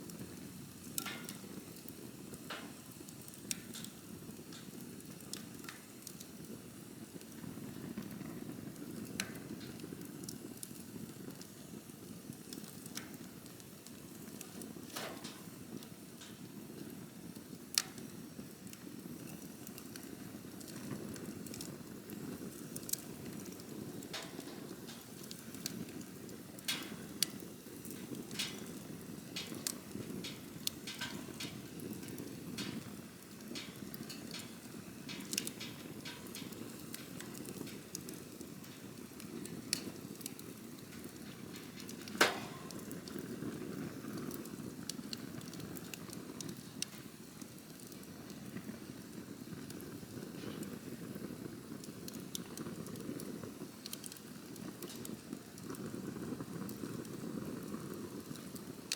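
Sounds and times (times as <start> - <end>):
campfire flames rushing: 0.0 - 58.9
fire crackling and popping: 0.0 - 58.9.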